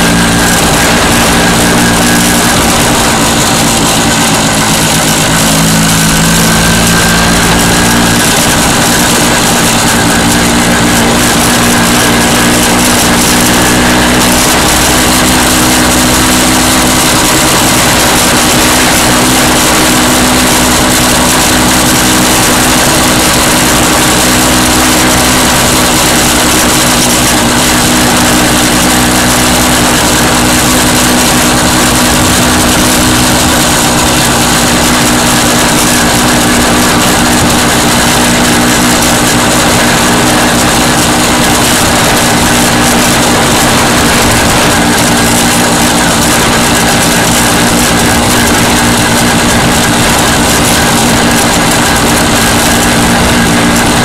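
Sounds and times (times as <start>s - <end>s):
motorcycle engine running: 0.0s - 54.0s
rushing noise: 0.0s - 54.0s.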